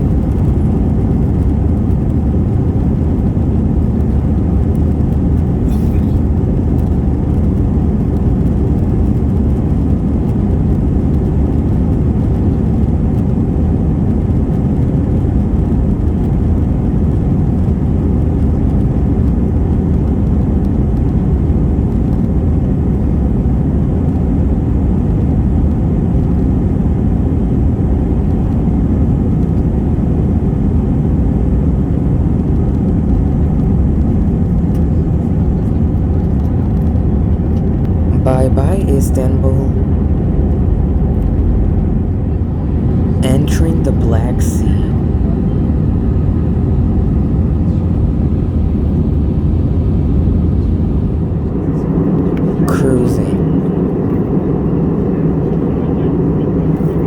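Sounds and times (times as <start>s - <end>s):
jet engine cabin noise: 0.0s - 57.0s.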